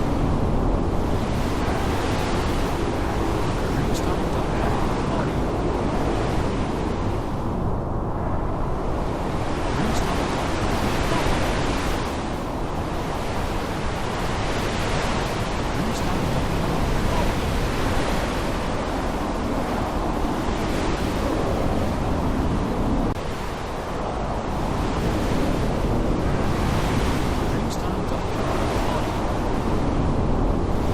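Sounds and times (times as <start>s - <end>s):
heavy rain: 0.0s - 0.2s, 0.8s - 7.6s, 9.0s - 30.9s
wind: 0.0s - 30.9s.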